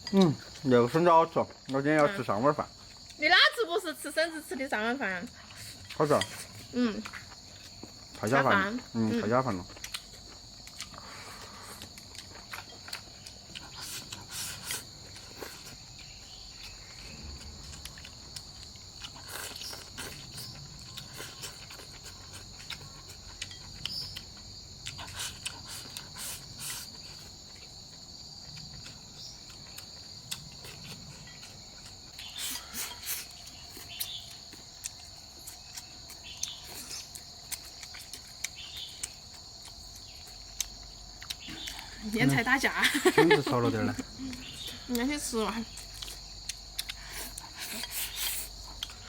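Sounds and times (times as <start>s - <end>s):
insect chorus chirring: 0.0s - 49.0s.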